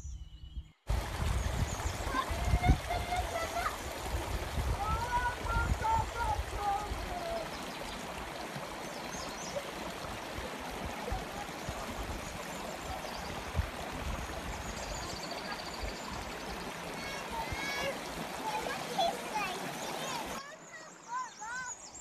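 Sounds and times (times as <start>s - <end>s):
flowing water rushing: 0.9s - 22.0s.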